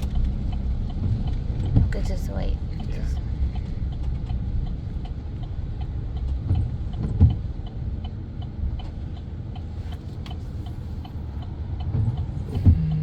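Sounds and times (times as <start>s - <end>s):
engine rumble inside cab: 0.0s - 13.0s
turn signal clicking: 0.0s - 13.0s.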